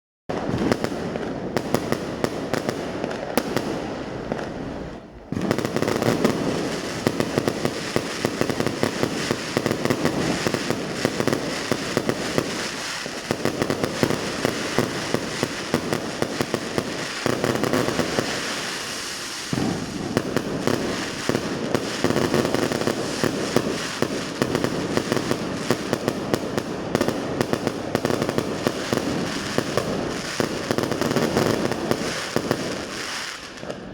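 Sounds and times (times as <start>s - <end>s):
fireworks crackling and popping: 0.3s - 33.9s
sharp firework bangs: 0.3s - 33.9s.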